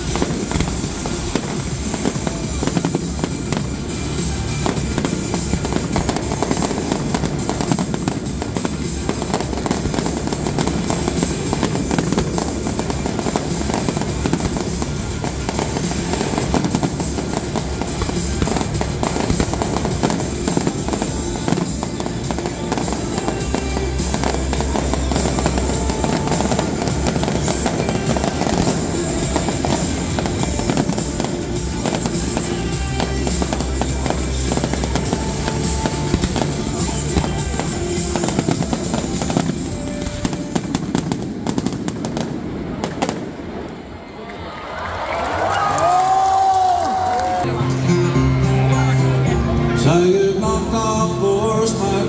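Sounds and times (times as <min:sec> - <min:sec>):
music: 0:00.0 - 0:43.2, 0:45.6 - 0:52.0
firework shells bursting: 0:00.0 - 0:43.8
fireworks crackling and popping: 0:00.0 - 0:44.4, 0:45.5 - 0:47.5.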